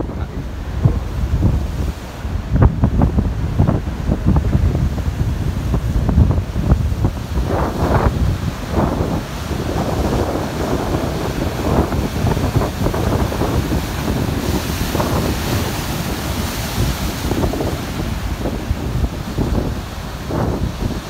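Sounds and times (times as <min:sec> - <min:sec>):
breaking waves and surf: 0:00.0 - 0:21.0
wind buffeting microphone: 0:00.0 - 0:21.0.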